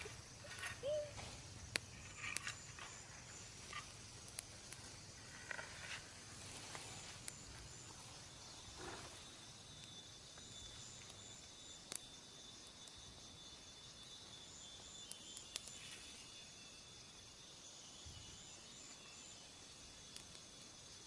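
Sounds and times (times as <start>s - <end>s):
insects chirping in pulses: 0.0s - 21.0s
thin steady insect buzz: 0.0s - 21.0s.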